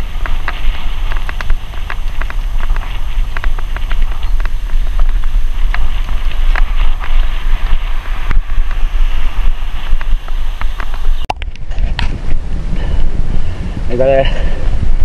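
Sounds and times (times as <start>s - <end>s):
bicycle clicks and rattles: 0.0s - 12.2s
wind buffeting microphone: 0.0s - 15.0s.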